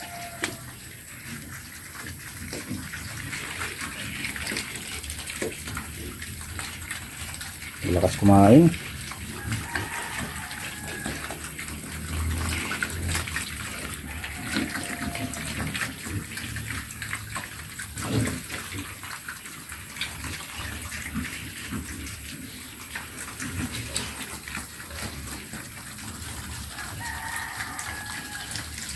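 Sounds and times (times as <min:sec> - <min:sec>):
pigs slurping and chomping feed: 0:00.0 - 0:28.9.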